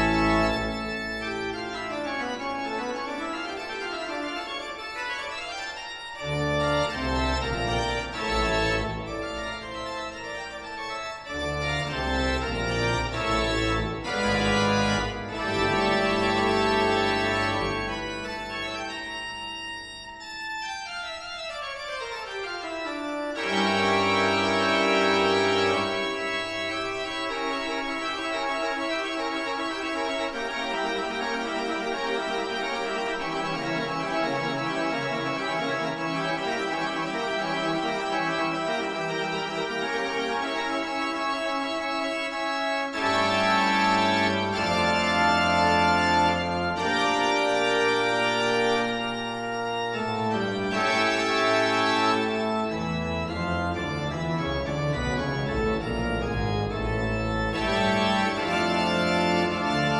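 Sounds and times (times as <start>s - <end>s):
organ music with held chords: 0.0s - 59.9s.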